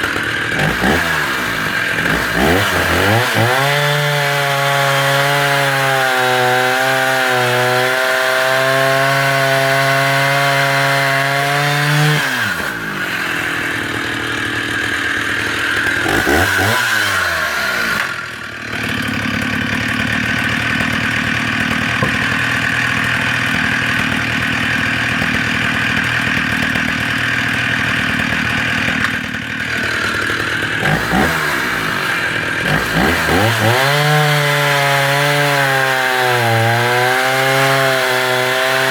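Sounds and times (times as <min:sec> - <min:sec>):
chain cutting through log: 0:00.0 - 0:38.9
chainsaw revving: 0:00.0 - 0:38.9.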